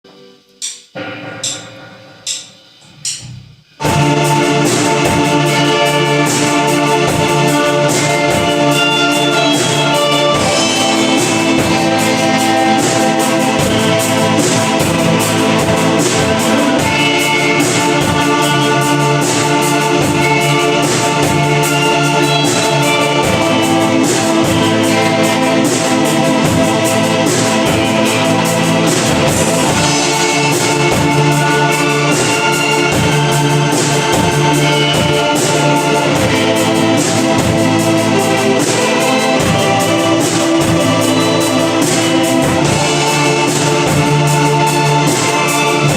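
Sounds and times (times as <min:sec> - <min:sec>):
drum beat: 0:00.6 - 0:45.9
live band with brass: 0:03.8 - 0:45.9.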